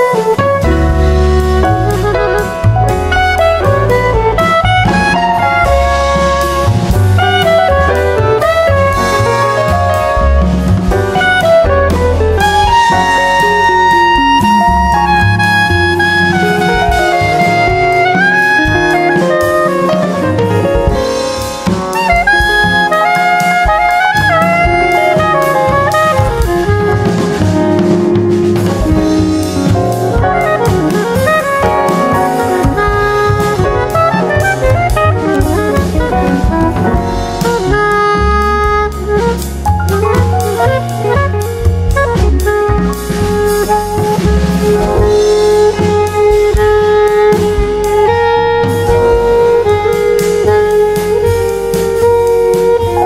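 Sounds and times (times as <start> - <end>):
drum beat: 0.0 - 53.0
jazz music with horn melody: 0.0 - 53.0.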